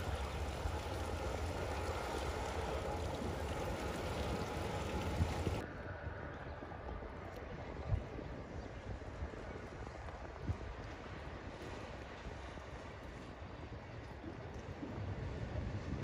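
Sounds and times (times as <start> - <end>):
boat engines and wake rushing: 0.0 - 16.0
harbour noise: 0.0 - 16.0.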